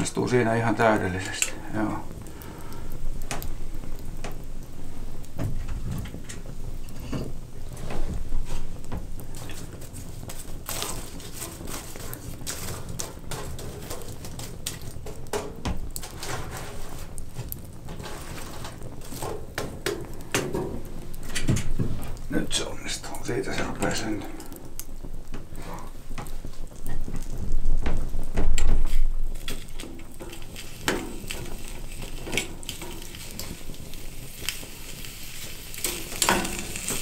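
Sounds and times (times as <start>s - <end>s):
food sizzling in a pan: 0.0s - 37.0s
wood fire crackling: 0.0s - 37.0s.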